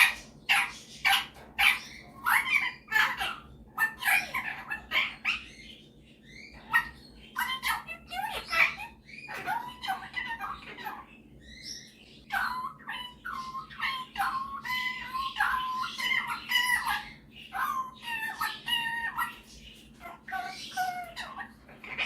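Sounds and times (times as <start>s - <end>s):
parrot warbling calls: 0.0s - 22.0s.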